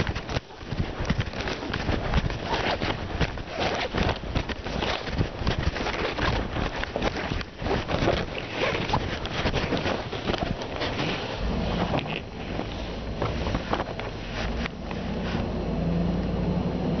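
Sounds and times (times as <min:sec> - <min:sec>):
microphone handling noise: 0:00.0 - 0:15.5.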